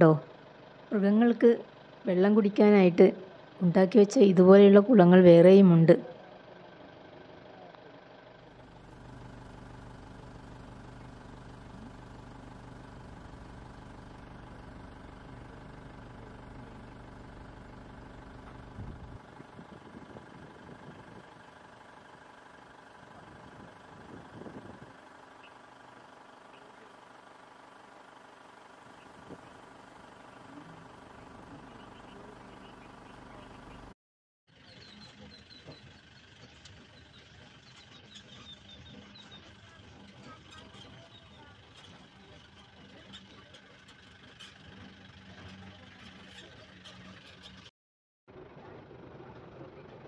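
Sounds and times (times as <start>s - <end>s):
vehicle engine idling: 0.0s - 47.7s, 48.3s - 50.0s.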